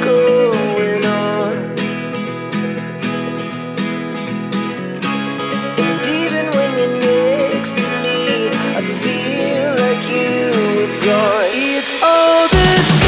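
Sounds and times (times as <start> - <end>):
song with strummed acoustic guitar: 0.0 - 13.0.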